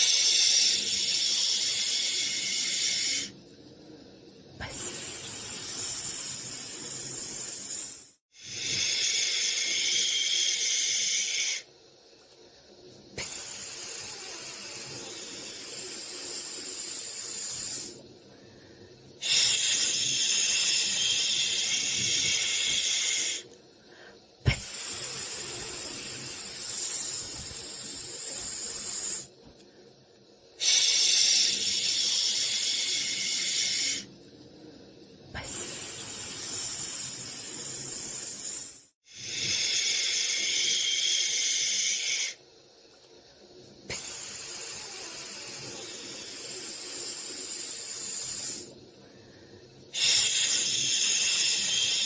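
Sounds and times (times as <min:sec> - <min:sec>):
shushing hiss: 0:00.0 - 0:03.4, 0:04.6 - 0:11.8, 0:12.6 - 0:29.4, 0:30.5 - 0:34.1, 0:35.3 - 0:42.5, 0:43.8 - 0:52.0.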